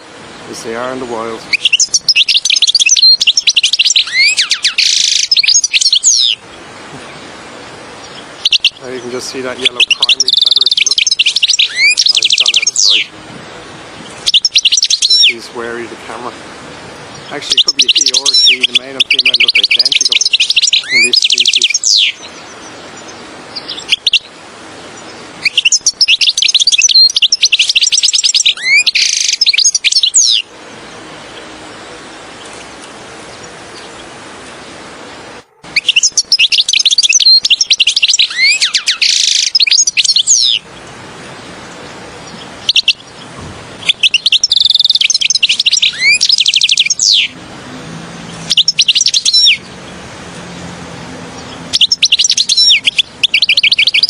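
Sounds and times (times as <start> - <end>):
bird twittering trills: 0.0 - 54.0
faint steady hiss: 0.0 - 54.0.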